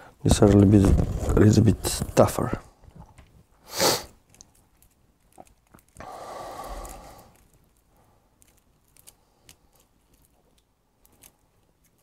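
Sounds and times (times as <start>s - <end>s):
wires rustling and clicking: 0.3s - 12.0s.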